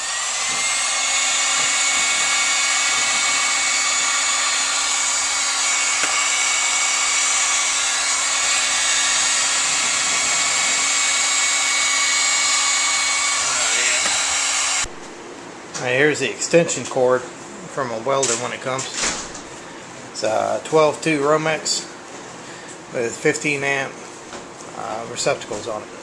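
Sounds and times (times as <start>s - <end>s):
heat gun fan whine: 0.0s - 26.0s.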